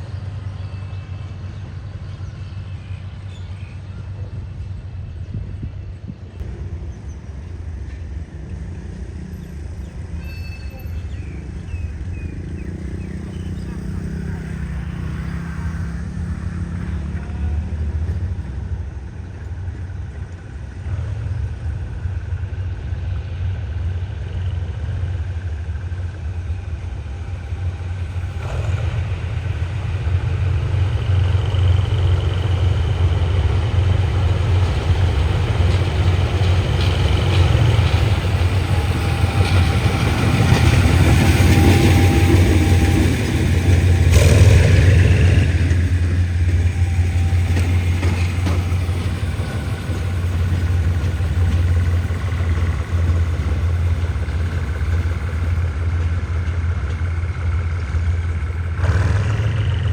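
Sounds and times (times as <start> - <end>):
diesel train engine rumble: 0.0 - 59.9.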